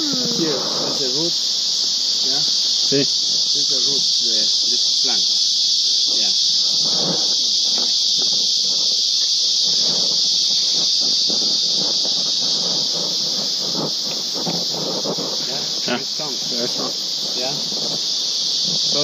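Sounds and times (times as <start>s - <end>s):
insect chorus shrill drone: 0.0s - 19.0s.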